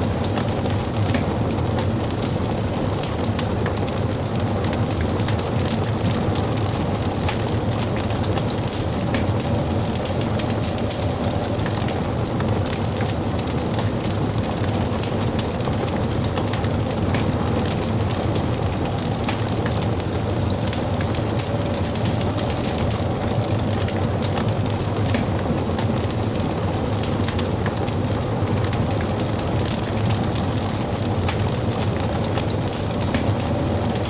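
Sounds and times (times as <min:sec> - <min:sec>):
fire crackles and pops: 0:00.0 - 0:34.0
low rumble of flames: 0:00.0 - 0:34.0.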